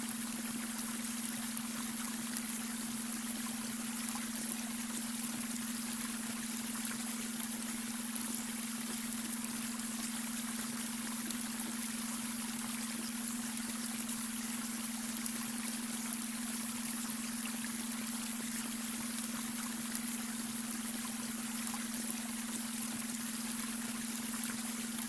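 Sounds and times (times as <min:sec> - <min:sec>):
brook water trickling: 0:00.0 - 0:25.0
low steady hum tone: 0:00.0 - 0:25.0.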